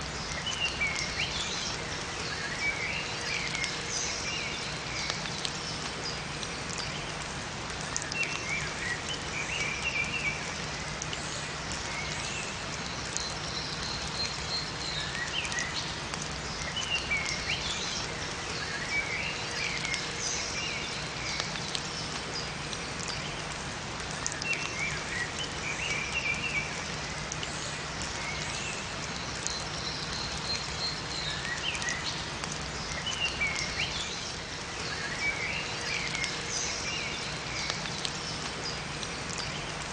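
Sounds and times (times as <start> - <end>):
steady rain falling: 0.0 - 39.9
songbirds chirping: 0.1 - 39.9.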